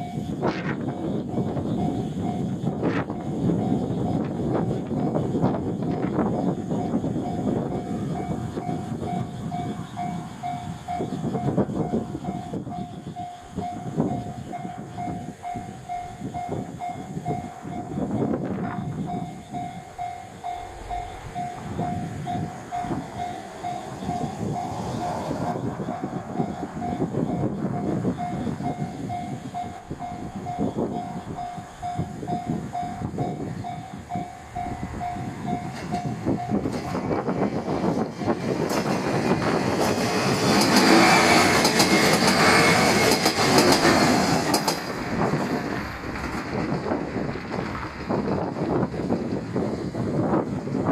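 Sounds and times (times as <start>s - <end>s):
diesel railcar rumble: 0.0s - 50.9s.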